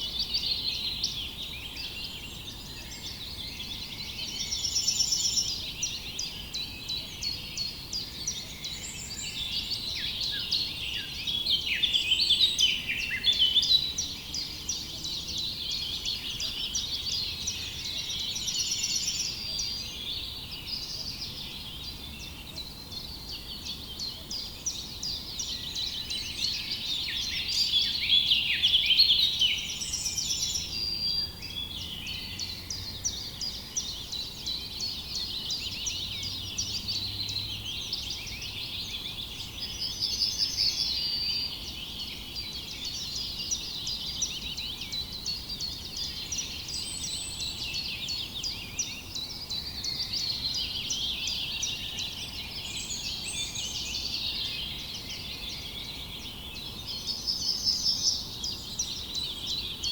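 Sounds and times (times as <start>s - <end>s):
buzzy bird song phrase: 0.0s - 59.9s
songbirds chirping and singing: 0.0s - 59.9s.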